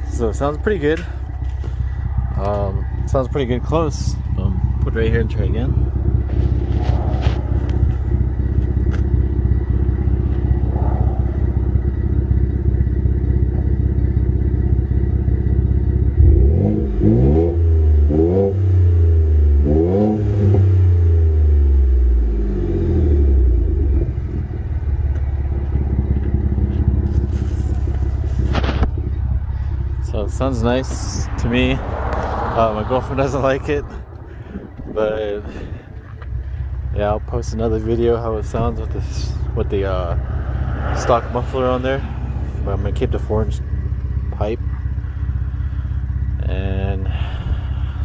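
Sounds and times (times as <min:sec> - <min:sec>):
truck engine idling and revving: 0:00.0 - 0:48.0.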